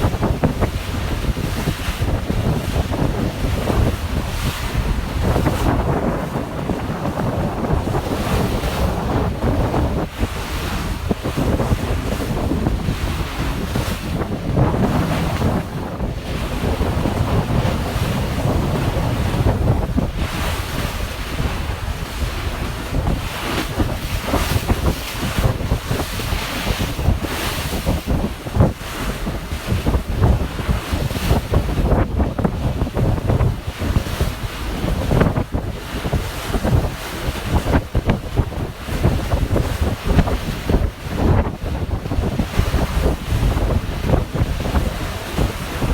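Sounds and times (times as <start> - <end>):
water rushing around boat: 0.0 - 45.9
wind buffeting microphone: 0.0 - 45.9.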